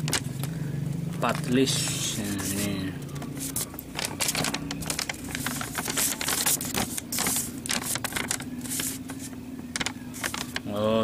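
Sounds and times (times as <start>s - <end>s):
paper crackling and rustling: 0.0s - 0.6s, 1.2s - 11.0s.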